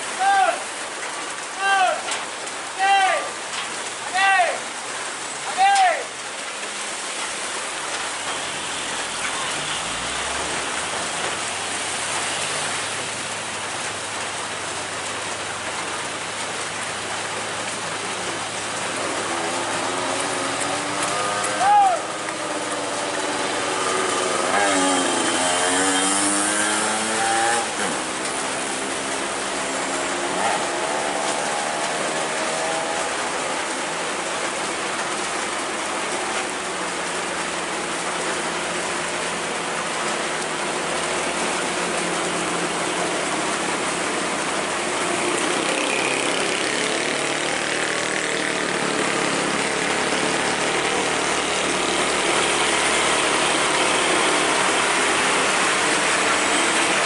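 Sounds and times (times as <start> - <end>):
road noise: 0.0 - 57.0.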